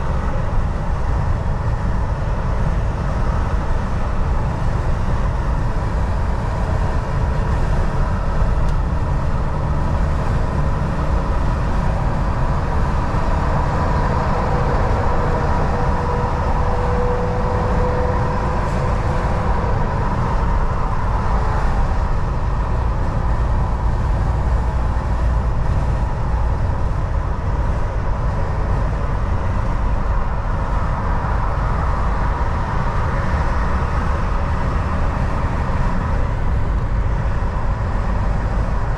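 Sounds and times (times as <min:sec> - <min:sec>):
road rumble: 0:00.0 - 0:38.9
truck engine drone: 0:00.0 - 0:38.9.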